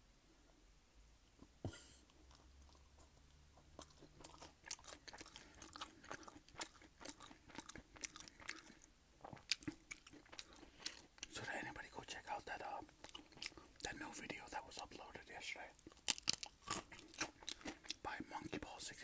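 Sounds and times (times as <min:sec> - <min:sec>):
chewing crunchy food: 0:01.7 - 0:18.8.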